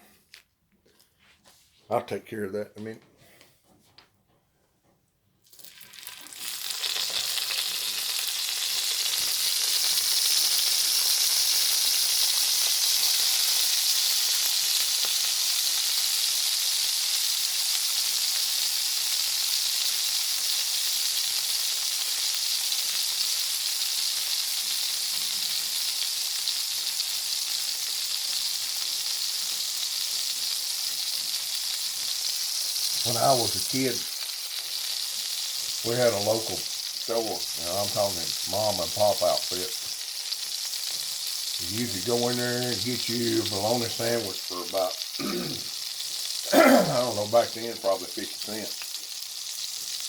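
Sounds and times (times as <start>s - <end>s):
meat sizzling in oil: 5.4s - 50.0s.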